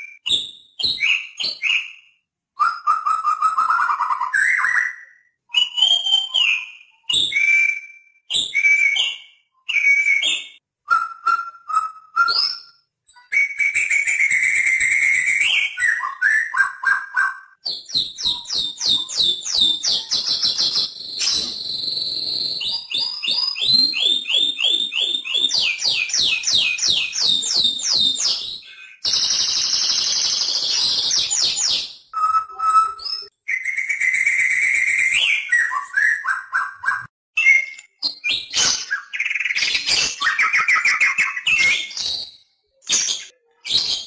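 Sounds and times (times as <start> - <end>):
bird singing varied whistles: 0.0 - 44.0.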